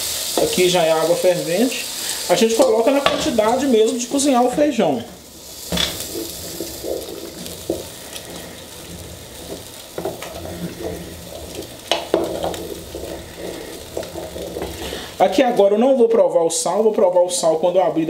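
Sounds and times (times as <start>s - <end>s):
wooden spoon stirring beans: 0.0s - 18.0s.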